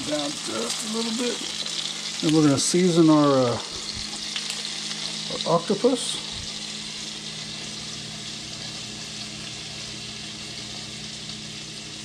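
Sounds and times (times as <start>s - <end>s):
oil and garlic sizzling in a pan: 0.0s - 12.0s.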